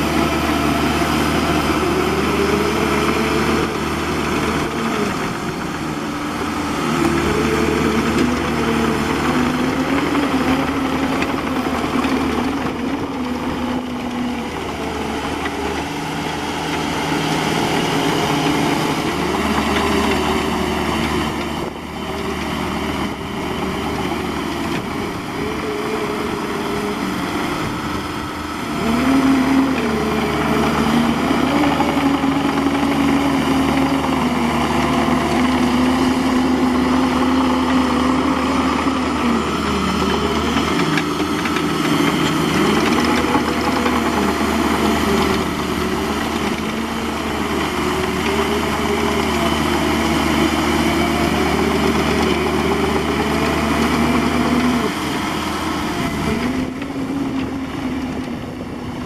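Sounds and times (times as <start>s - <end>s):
diesel engine under load: 0.0s - 59.0s
hydraulic whine: 0.0s - 59.0s.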